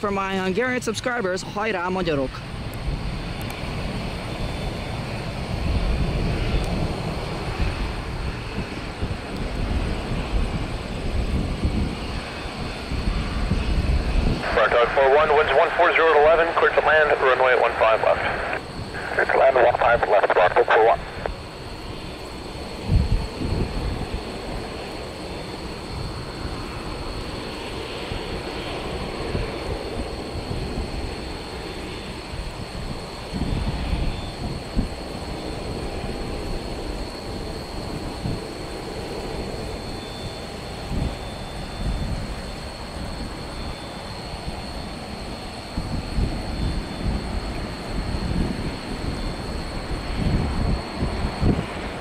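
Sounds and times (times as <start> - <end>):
jet aircraft engines rumbling: 0.0 - 52.0.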